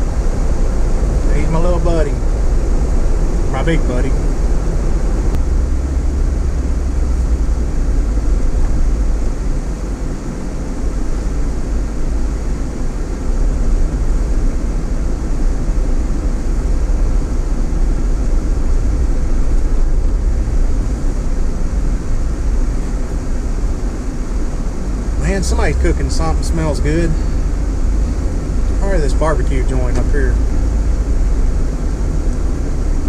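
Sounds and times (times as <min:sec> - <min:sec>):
road and engine rumble in vehicle: 0:00.0 - 0:33.0.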